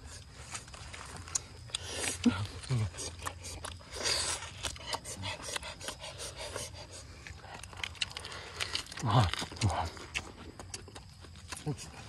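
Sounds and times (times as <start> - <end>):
chewing and lip smacking: 0.9 - 12.0.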